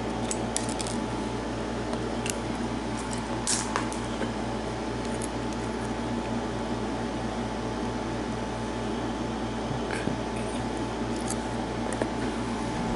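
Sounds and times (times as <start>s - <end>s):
pulsing background hum: 0.0s - 12.9s.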